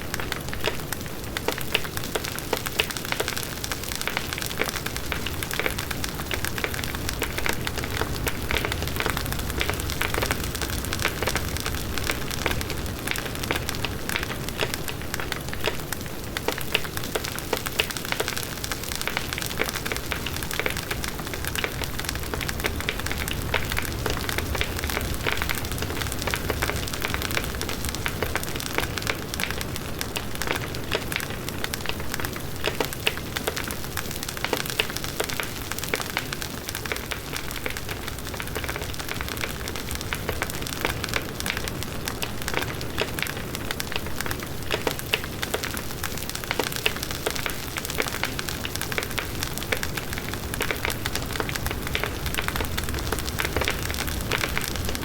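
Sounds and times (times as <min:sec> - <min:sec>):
crackling and popping wood: 0:00.0 - 0:55.0
low rumble of flames: 0:00.2 - 0:55.0.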